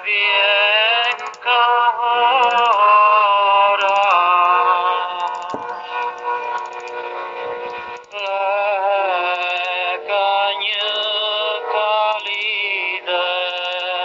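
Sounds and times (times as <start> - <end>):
singing with vibrato: 0.0 - 6.2, 8.1 - 14.0
high ticking bursts: 0.1 - 14.0.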